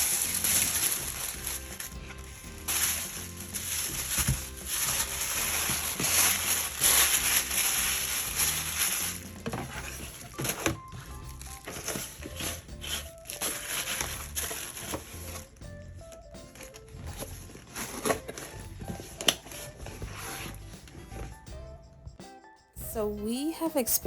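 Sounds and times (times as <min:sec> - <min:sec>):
crinkling rustling noise: 0:00.0 - 0:21.4
background music with bass line: 0:00.0 - 0:24.0.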